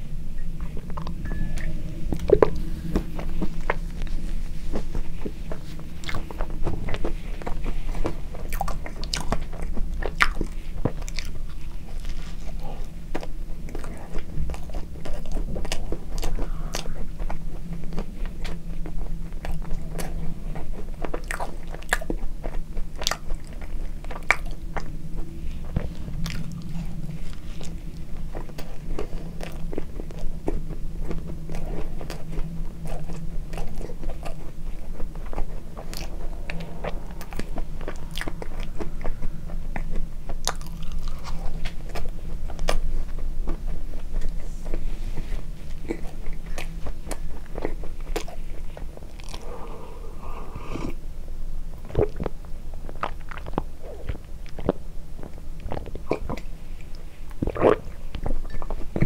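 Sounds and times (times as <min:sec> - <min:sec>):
chewing soft bun: 0:00.0 - 0:59.0.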